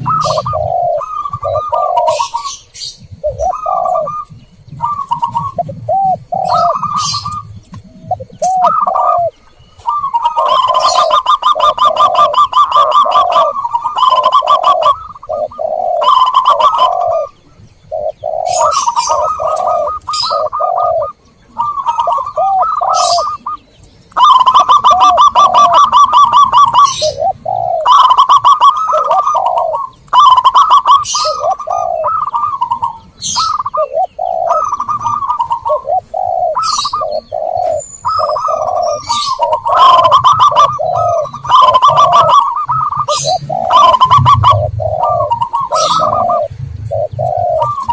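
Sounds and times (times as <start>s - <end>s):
doves cooing: 0.0s - 47.9s
small birds chirping: 0.0s - 47.9s.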